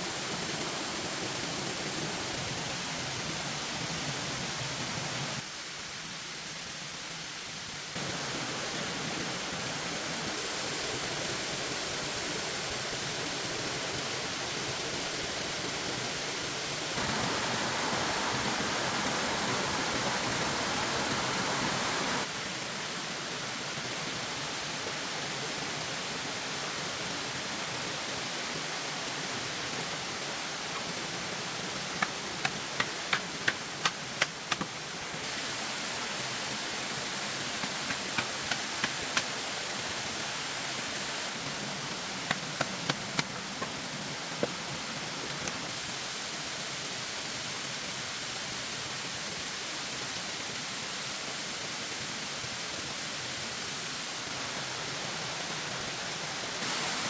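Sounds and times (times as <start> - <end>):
rushing water-like noise: 0.0 - 57.0.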